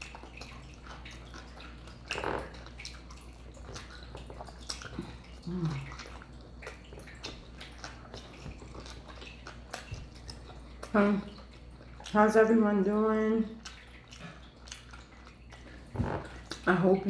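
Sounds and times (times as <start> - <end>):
wet chewing and smacking: 0.0 - 17.0.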